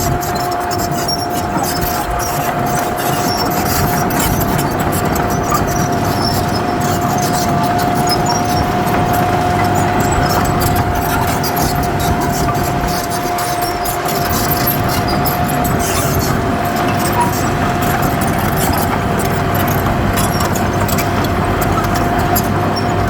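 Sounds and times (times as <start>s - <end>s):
bulldozer diesel engine under load: 0.0s - 23.0s
tracks clattering: 0.0s - 23.0s.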